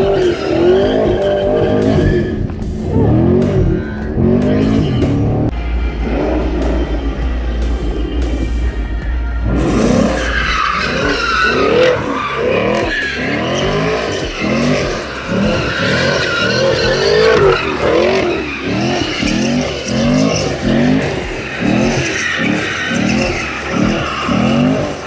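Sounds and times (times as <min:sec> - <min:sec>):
car engine revving: 0:00.0 - 0:25.0
tyres squealing: 0:00.0 - 0:25.0.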